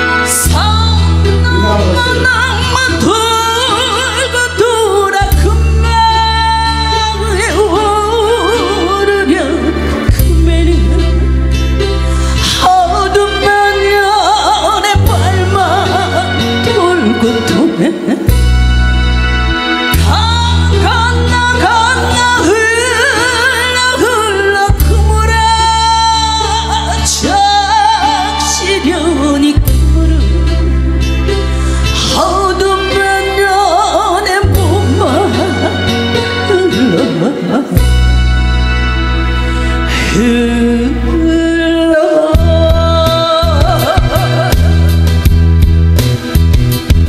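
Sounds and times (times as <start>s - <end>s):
woman singing a slow ballad: 0.0s - 18.5s, 19.9s - 38.2s, 39.8s - 45.1s
backing track with bass notes: 0.0s - 47.0s.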